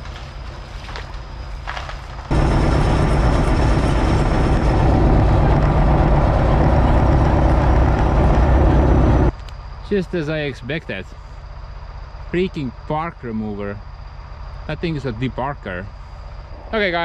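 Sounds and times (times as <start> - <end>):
bulldozer diesel engine running: 2.3 - 16.5.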